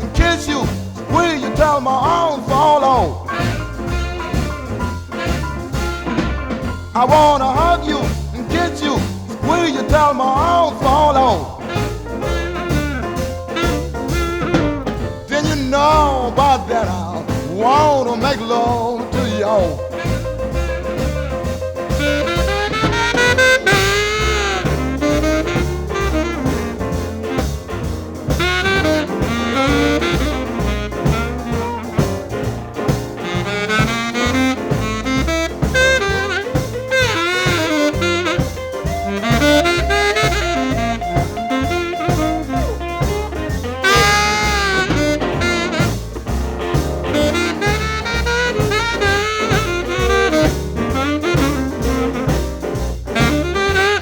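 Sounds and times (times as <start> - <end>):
instrumental jazz blues music: 0.0 - 54.0
saxophone solo: 0.0 - 54.0.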